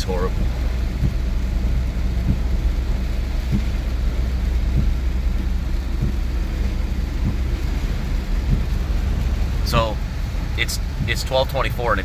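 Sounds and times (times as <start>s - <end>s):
car engine and road drone: 0.0s - 12.0s
rain and tyre spray hiss: 0.0s - 12.0s.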